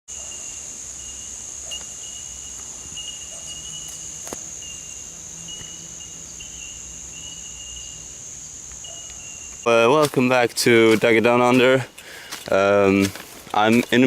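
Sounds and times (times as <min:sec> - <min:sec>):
insects droning: 0:00.1 - 0:14.0
low insect trill: 0:00.1 - 0:14.0.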